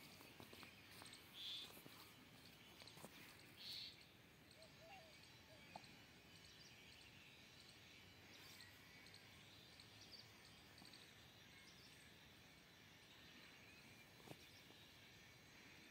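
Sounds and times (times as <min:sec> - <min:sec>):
faint outdoor hiss: 0:00.0 - 0:15.9.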